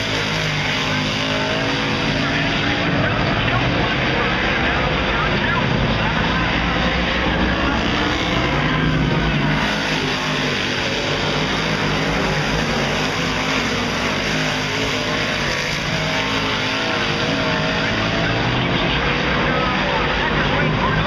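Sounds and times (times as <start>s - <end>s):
race car engines roaring: 0.0s - 21.0s.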